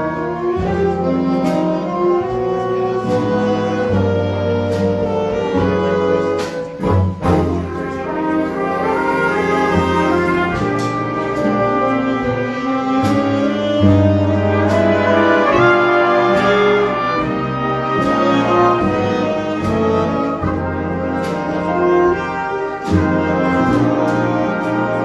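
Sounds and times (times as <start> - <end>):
jazz big band playing: 0.0 - 25.0.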